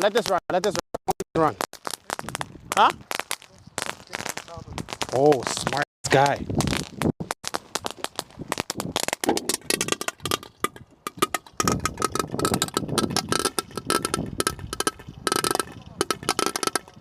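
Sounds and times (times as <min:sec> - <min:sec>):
fireworks crackling: 0:00.0 - 0:00.8, 0:01.4 - 0:17.0.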